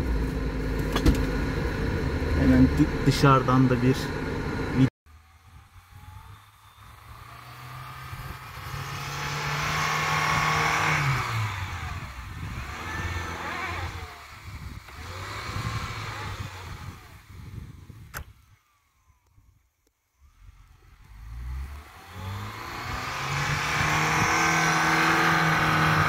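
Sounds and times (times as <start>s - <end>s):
car engine pulling hard: 0.0s - 26.0s.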